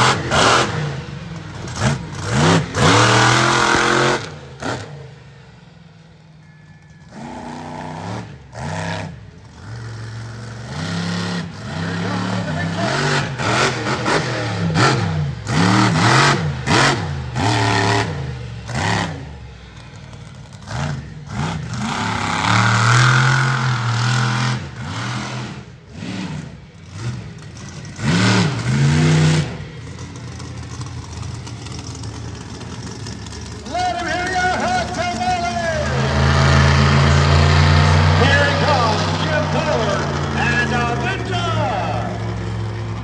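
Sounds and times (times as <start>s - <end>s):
monster truck engine revving: 0.0s - 6.2s, 7.0s - 43.0s.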